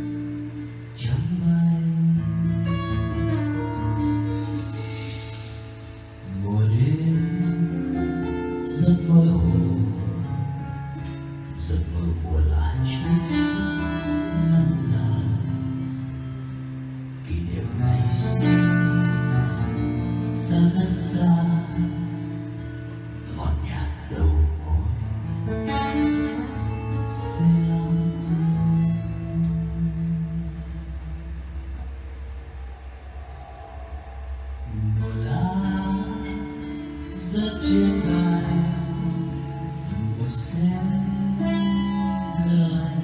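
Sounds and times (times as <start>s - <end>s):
man singing a ballad: 0.0s - 16.2s, 17.1s - 31.2s, 34.6s - 43.0s
acoustic guitar: 0.0s - 43.0s.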